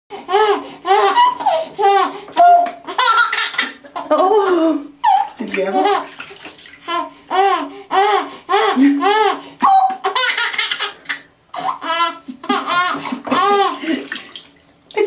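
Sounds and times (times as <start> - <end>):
baby laughing: 0.3 - 6.2, 6.9 - 14.1.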